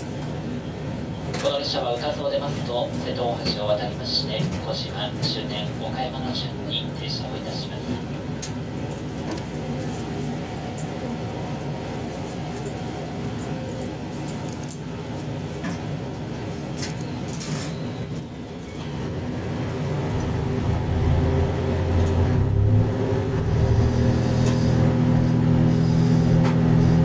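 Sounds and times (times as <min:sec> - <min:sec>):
diesel railcar engine drone: 0:00.0 - 0:27.0.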